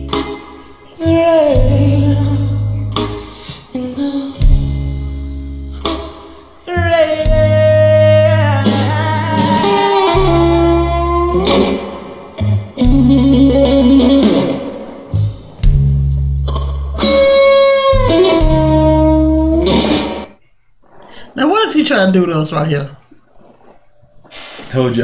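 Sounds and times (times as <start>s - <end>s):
bass line and band: 0.0s - 20.4s
blues electric guitar solo: 0.0s - 20.4s.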